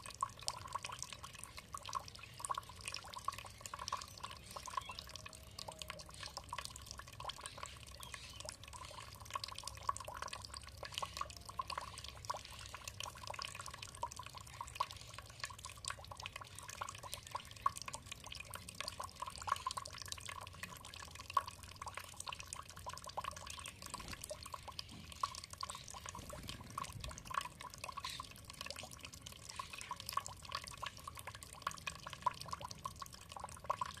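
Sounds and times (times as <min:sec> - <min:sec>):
water dripping and trickling: 0:00.0 - 0:34.0.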